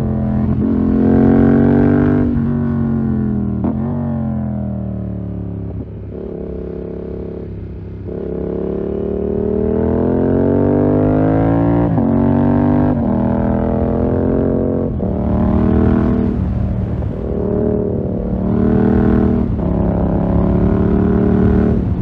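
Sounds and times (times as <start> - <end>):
motorcycle engine accelerating hard: 0.0 - 22.0.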